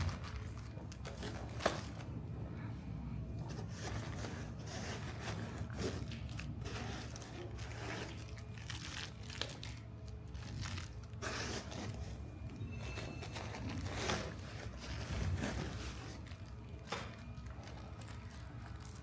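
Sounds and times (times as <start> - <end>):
plastic and cardboard crinkling: 0.0 - 2.2, 3.4 - 19.0.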